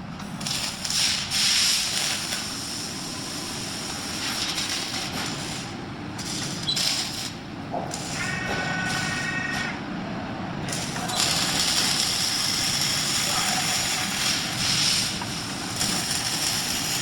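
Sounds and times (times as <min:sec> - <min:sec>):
welding arc crackling hiss: 0:00.2 - 0:09.8, 0:10.7 - 0:17.0.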